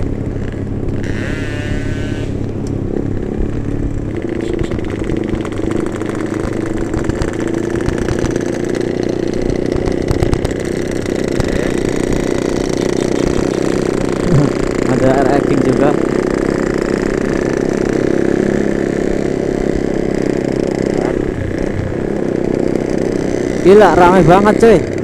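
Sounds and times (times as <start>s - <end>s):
two-stroke motorcycles cruising: 0.0s - 25.0s.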